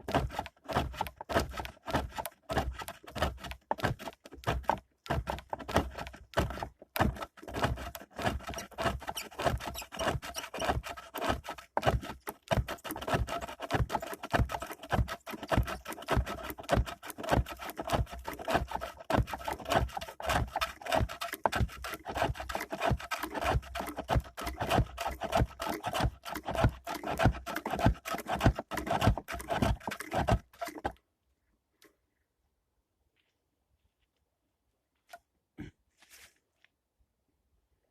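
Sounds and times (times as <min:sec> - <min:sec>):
lathe tool scraping wood: 0:00.0 - 0:31.0.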